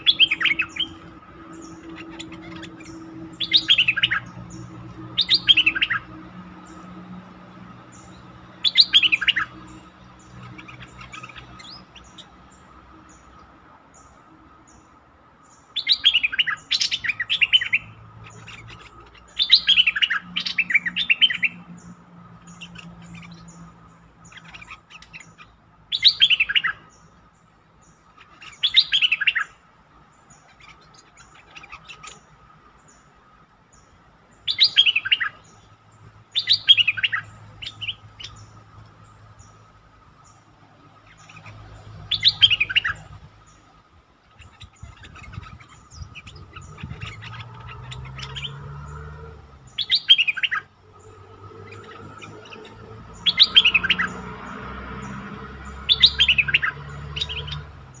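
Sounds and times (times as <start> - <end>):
bulbul song: 0.0 - 58.0.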